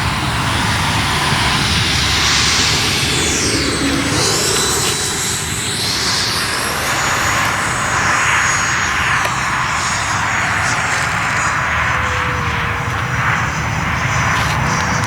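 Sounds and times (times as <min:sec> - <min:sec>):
model jet fan rushing: 0:00.0 - 0:15.0
high whine: 0:00.3 - 0:15.0.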